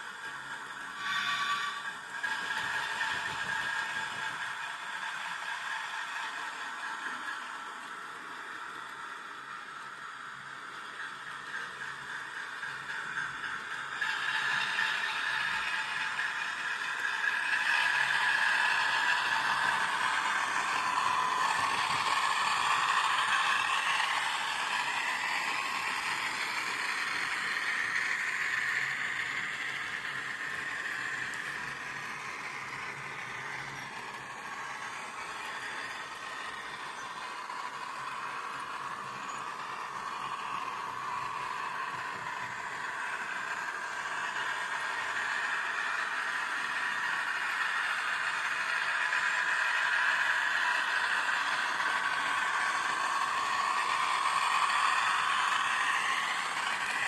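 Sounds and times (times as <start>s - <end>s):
wheels rattling on rail: 0.0s - 9.9s, 10.5s - 57.0s
model train motor whine: 0.0s - 57.0s.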